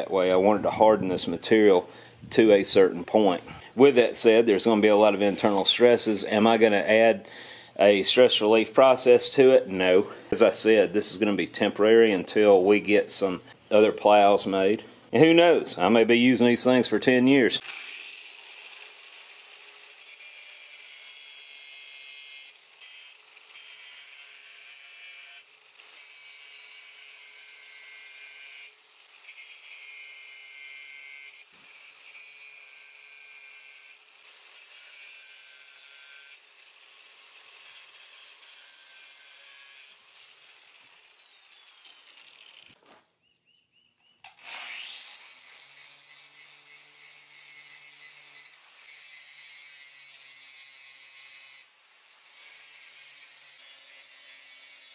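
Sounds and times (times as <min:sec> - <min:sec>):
angle grinder cutting iron: 0:00.0 - 0:42.8, 0:44.2 - 0:54.9.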